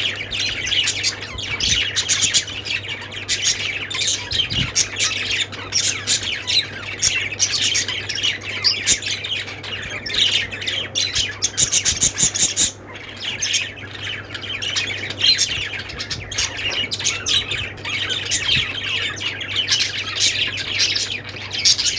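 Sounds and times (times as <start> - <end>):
parrots chirping and squawking: 0.0 - 21.9.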